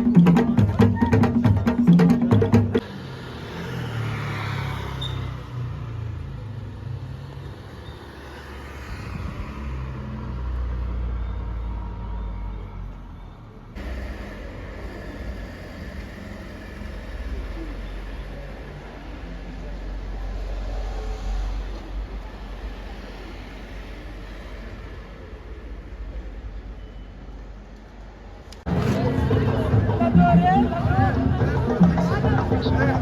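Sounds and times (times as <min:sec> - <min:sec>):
traffic engines rumbling and passing: 0:00.0 - 0:33.0.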